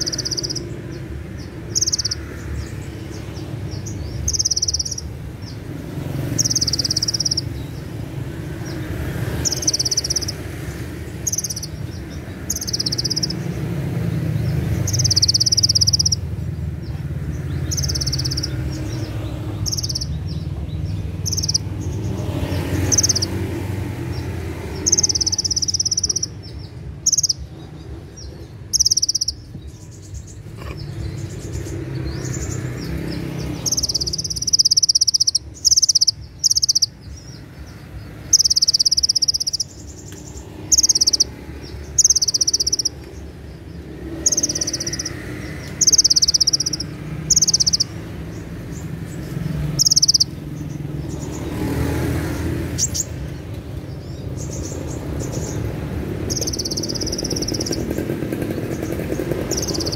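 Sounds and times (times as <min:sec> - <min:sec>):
bird trilling song: 0:00.0 - 0:59.9.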